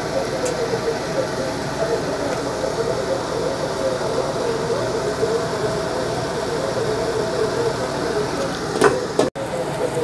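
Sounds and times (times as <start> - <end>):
low wavering hum: 0.0 - 10.0.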